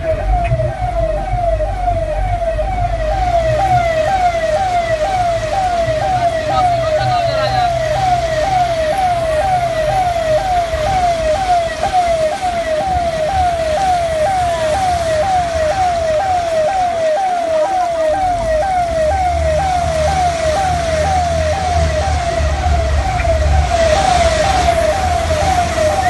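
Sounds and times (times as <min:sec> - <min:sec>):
electronic siren wailing: 0:00.0 - 0:26.0
low vehicle rumble: 0:00.0 - 0:26.0.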